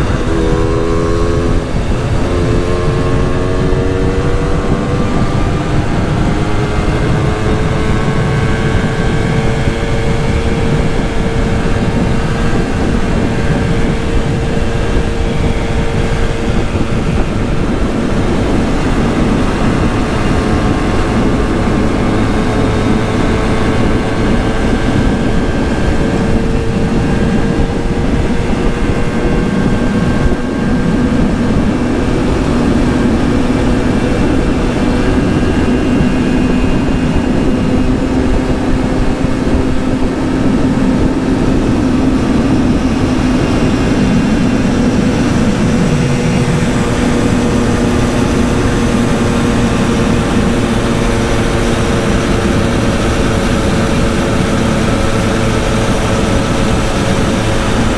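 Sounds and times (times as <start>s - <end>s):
moped engine running: 0.0s - 57.9s.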